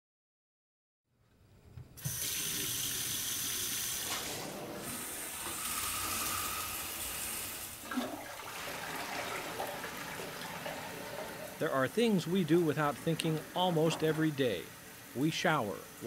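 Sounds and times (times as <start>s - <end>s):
faucet water running into sink: 2.0s - 16.0s
toilet flush: 2.0s - 16.0s.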